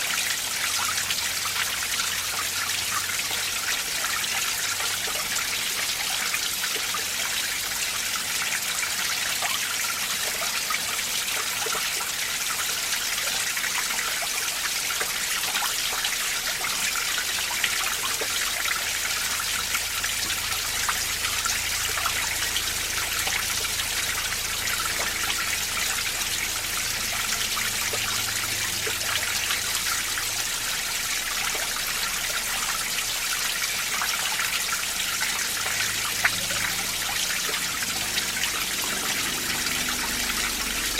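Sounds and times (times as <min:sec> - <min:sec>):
water trickling over rocks: 0:00.0 - 0:40.9.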